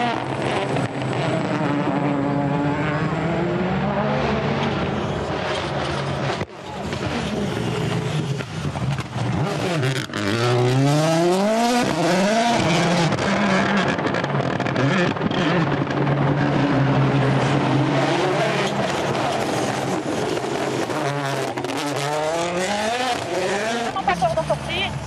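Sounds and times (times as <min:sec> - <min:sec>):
rally car engine accelerating: 0:00.0 - 0:24.8.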